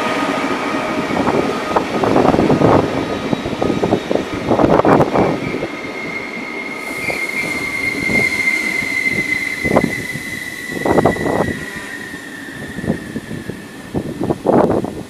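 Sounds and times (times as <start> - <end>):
train wheels and brakes squealing: 0.0 - 15.0.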